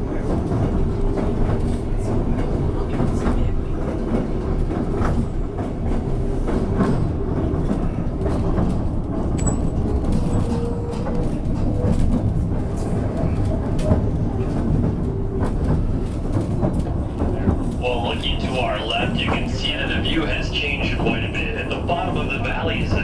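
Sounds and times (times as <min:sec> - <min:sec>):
railcar rumbling on track: 0:00.0 - 0:23.0.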